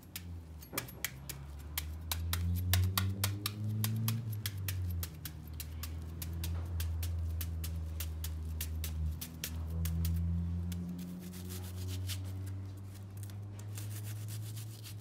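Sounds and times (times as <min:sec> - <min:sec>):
knife chopping onion: 0:00.0 - 0:12.2.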